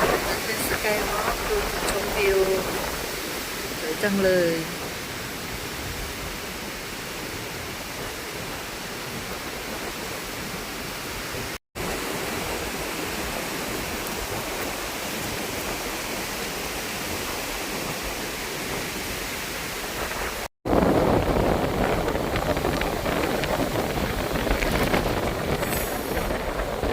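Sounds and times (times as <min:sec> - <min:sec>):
rushing wind: 0:00.0 - 0:26.9
wind buffeting microphone: 0:00.0 - 0:26.9.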